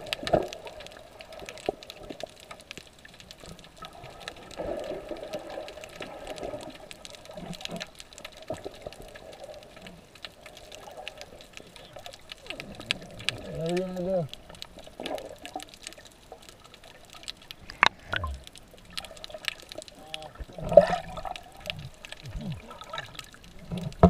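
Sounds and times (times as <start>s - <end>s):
muffled underwater water wash: 0.0s - 24.0s
sharp underwater clicks: 0.0s - 24.0s.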